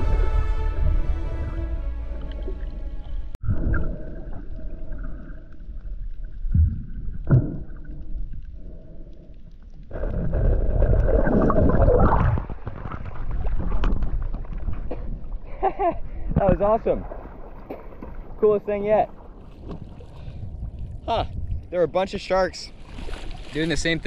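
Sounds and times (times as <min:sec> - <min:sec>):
muffled underwater water rushing: 0:00.0 - 0:24.0.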